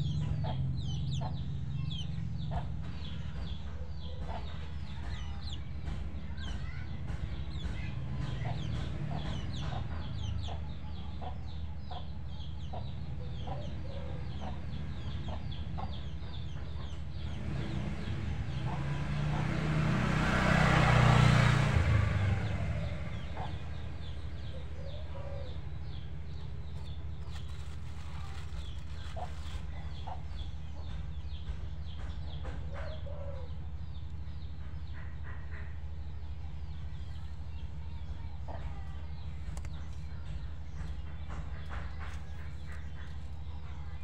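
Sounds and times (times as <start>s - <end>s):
chickens clucking: 0.0s - 19.7s, 22.4s - 44.0s
small birds chirping: 0.0s - 44.0s.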